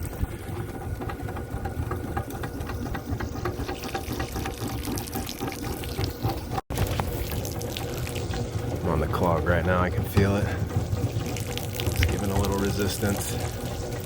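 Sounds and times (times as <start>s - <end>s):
cable ticking and rattling: 0.0s - 14.0s
motorized drain snake humming: 0.0s - 14.0s.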